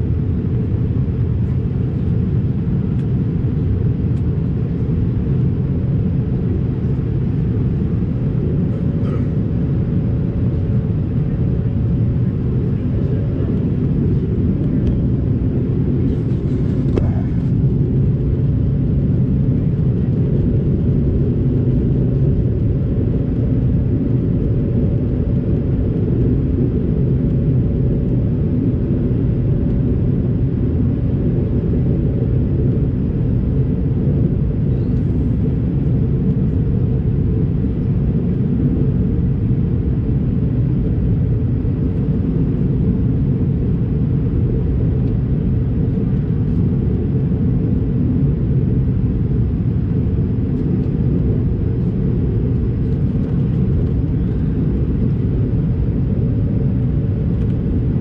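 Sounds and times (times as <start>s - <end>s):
low rumble of jet engines: 0.0s - 58.0s.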